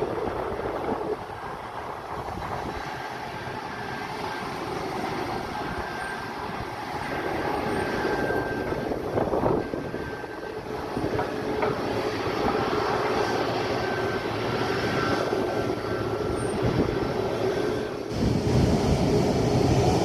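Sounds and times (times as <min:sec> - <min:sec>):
distant jet engines rumbling: 0:00.0 - 0:20.0.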